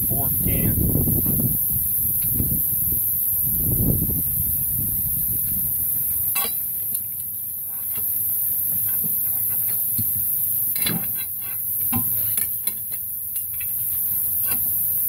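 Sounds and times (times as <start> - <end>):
steady hiss and low rumble: 0.0 - 15.0.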